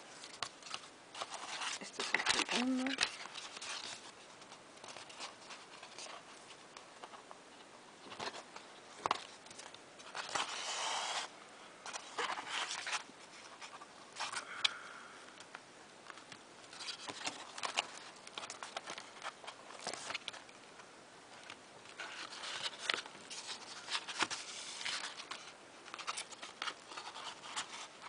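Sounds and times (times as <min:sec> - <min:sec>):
card and paper rustling: 0:00.1 - 0:14.8, 0:16.0 - 0:28.0.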